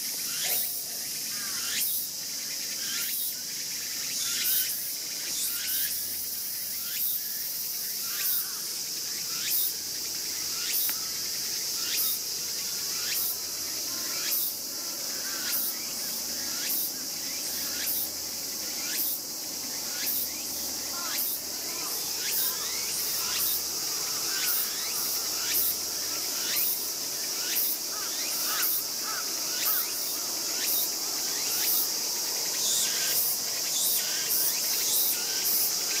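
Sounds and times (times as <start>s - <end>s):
cricket trill: 0.0s - 36.0s
sharp insect chirp: 0.0s - 36.0s.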